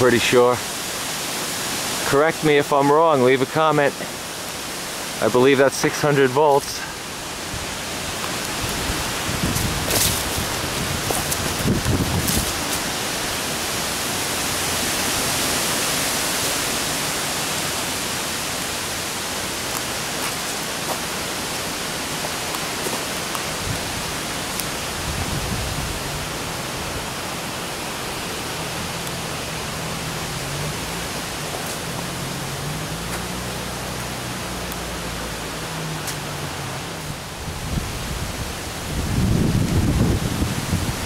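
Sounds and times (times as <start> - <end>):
steady rushing hiss: 0.0 - 41.0.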